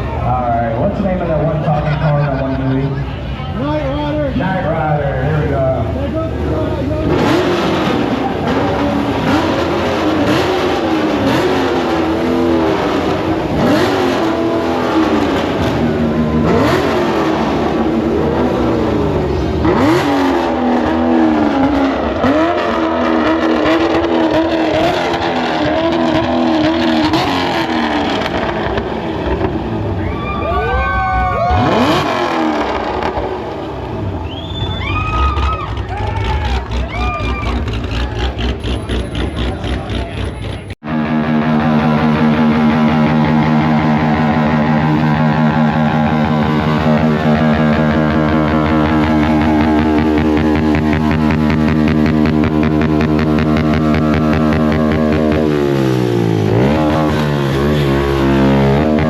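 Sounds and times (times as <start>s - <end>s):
car engine revving: 0.0s - 30.6s, 31.3s - 59.0s.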